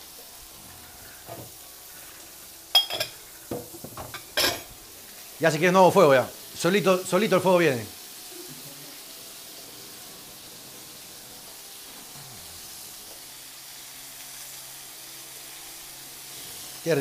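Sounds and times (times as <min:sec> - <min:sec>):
seafood sizzling in a frying pan: 0:00.0 - 0:17.0.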